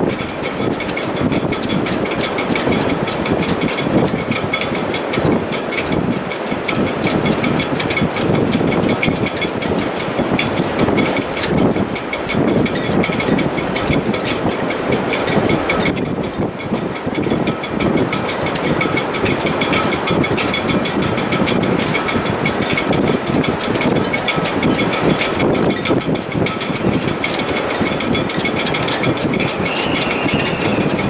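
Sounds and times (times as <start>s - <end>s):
strong wind in rigging: 0.0s - 31.0s.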